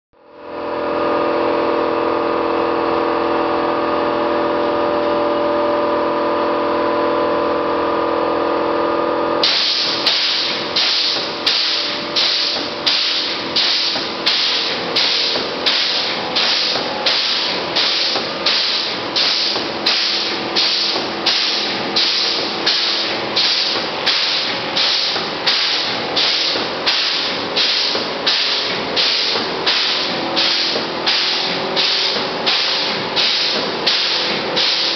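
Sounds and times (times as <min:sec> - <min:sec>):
foam machine humming: 0:00.4 - 0:34.9.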